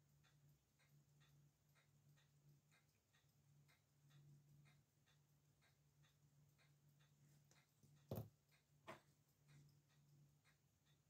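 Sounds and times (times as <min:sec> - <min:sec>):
pocket watch ticking: 0:00.0 - 0:11.0.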